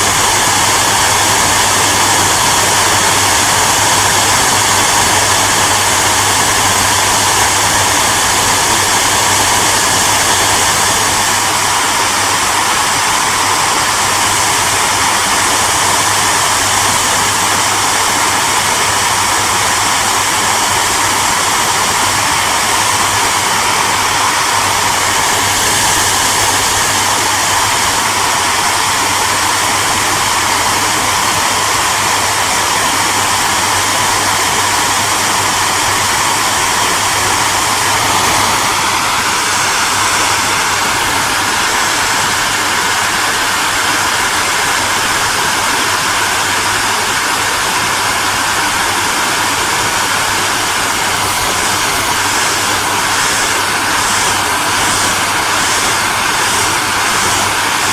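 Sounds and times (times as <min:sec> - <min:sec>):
hair dryer running: 0:00.0 - 0:57.9.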